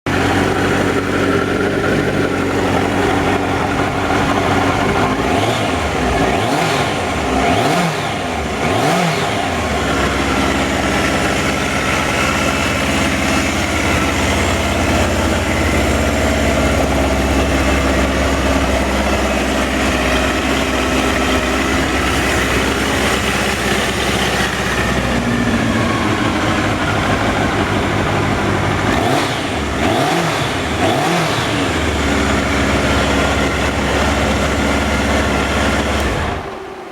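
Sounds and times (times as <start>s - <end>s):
motorcycle engine idling and revving: 0.1s - 36.9s.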